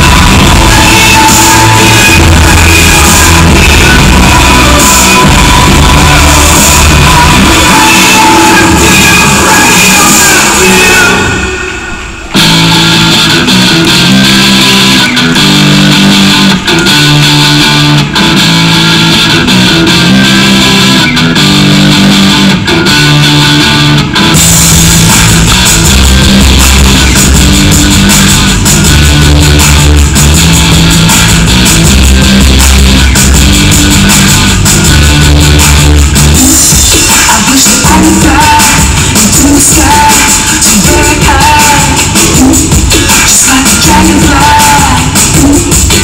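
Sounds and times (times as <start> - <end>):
heavy bass: 0.0 - 46.0
loud guitar music: 0.0 - 46.0.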